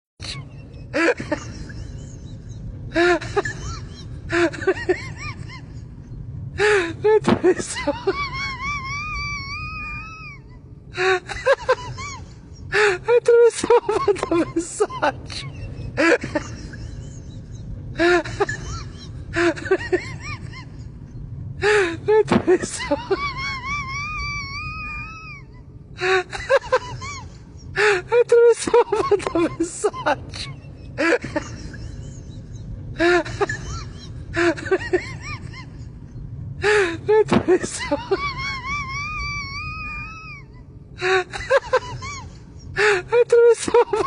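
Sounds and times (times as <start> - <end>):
steady low rumble: 0.2 - 44.0.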